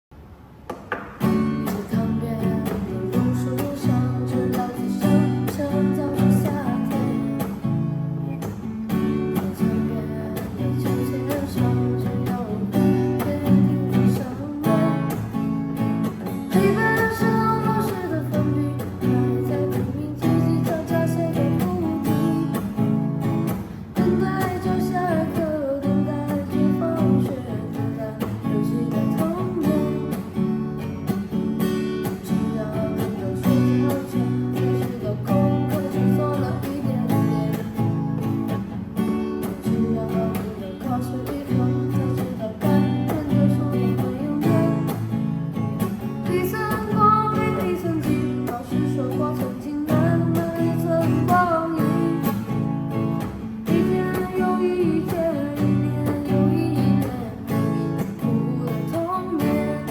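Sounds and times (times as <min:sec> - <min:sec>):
acoustic guitar strumming: 0:00.7 - 0:59.9
person singing: 0:01.7 - 0:07.6, 0:08.3 - 0:15.4, 0:16.2 - 0:22.9, 0:23.8 - 0:30.4, 0:32.0 - 0:38.0, 0:39.4 - 0:45.1, 0:46.2 - 0:52.5, 0:53.6 - 0:59.9.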